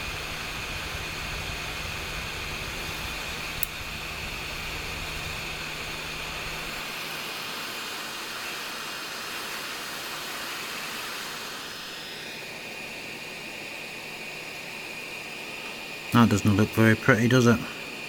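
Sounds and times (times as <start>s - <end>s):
high whine: 0.0s - 8.0s, 11.4s - 18.0s
small fan airflow hiss: 0.0s - 18.0s.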